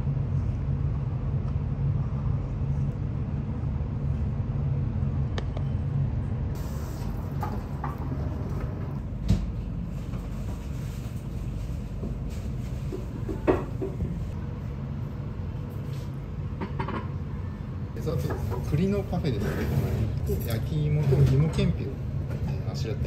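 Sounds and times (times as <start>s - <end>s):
low room rumble: 0.0s - 23.0s.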